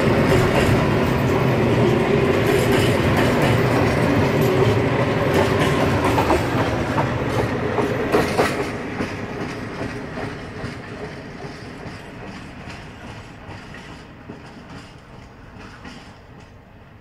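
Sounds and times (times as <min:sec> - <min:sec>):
train wheels clacking over rail joints: 0:00.0 - 0:16.8
train rumble: 0:00.0 - 0:17.0.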